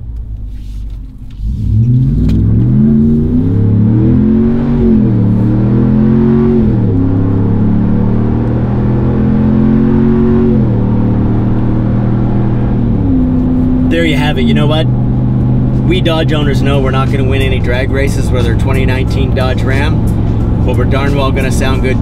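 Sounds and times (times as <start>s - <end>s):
truck engine revving through gears: 1.2s - 22.0s.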